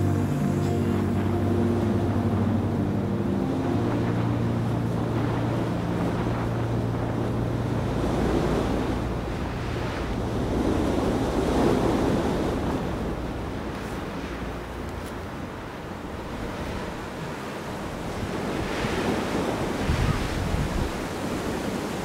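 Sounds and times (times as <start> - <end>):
low steady drone: 0.0 - 19.8
wind buffeting microphone: 0.0 - 22.0.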